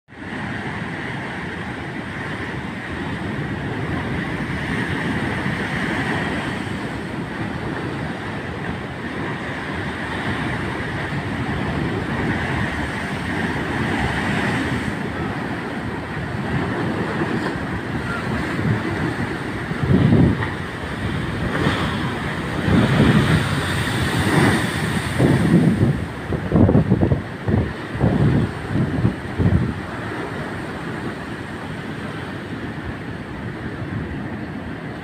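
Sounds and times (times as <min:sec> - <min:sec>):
storm waves breaking on beach: 0:00.1 - 0:35.0.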